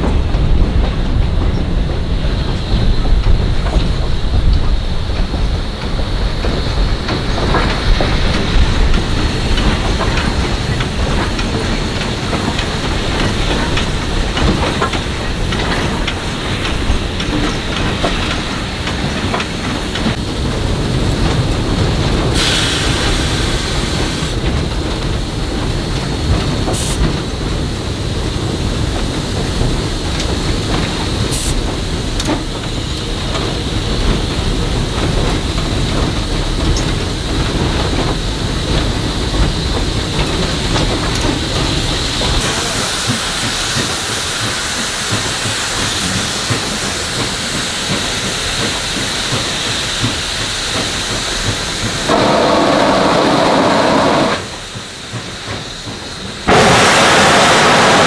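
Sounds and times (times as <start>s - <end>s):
steam locomotive running: 0.0s - 58.0s
steam hiss: 1.0s - 58.0s.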